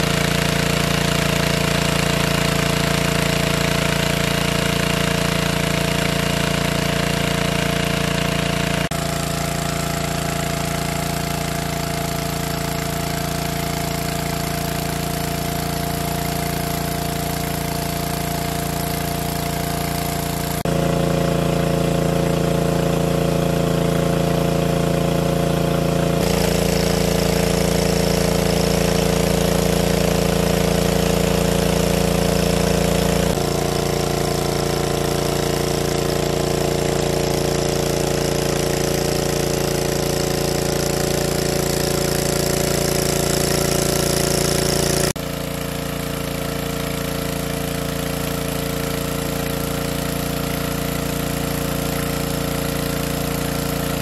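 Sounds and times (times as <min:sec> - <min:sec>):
petrol water pump engine: 0:00.0 - 0:54.0
water jet rushing: 0:00.0 - 0:54.0.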